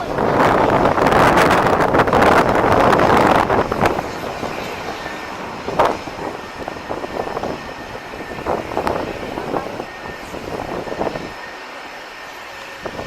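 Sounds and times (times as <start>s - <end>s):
airliner engines rumbling: 0.0s - 13.0s
wind gusting on microphone: 0.0s - 13.0s.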